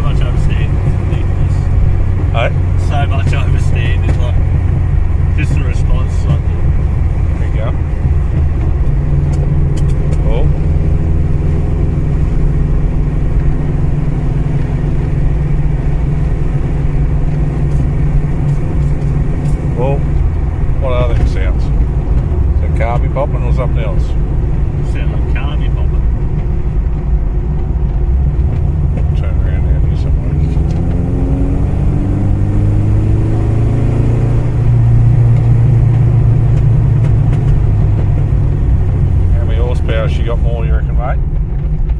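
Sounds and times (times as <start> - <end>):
car engine running while driving: 0.0 - 41.9
faint engine pops: 0.0 - 41.9
road noise: 0.0 - 41.9.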